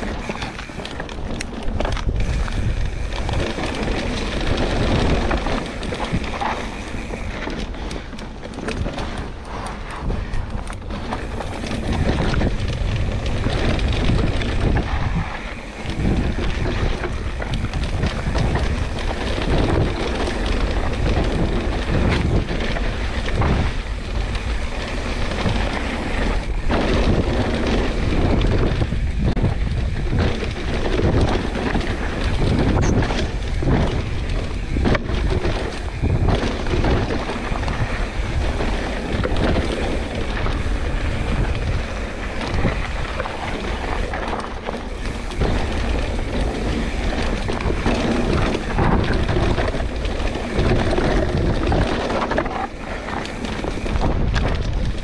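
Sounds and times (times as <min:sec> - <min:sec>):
bike knocks and rattles: 0:00.0 - 0:55.0
bike tyre noise on dirt: 0:00.0 - 0:55.0
wind buffeting microphone: 0:00.0 - 0:55.0.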